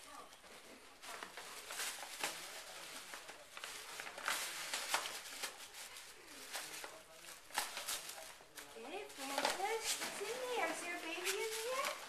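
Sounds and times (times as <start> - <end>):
gift bag and tissue paper rustling: 0.0 - 12.0.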